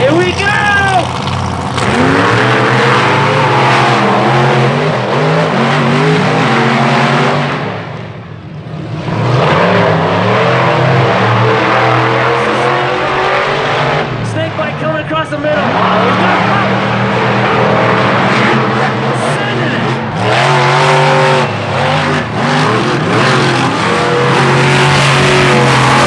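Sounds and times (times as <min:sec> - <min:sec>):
monster truck engines revving: 0:00.0 - 0:26.0.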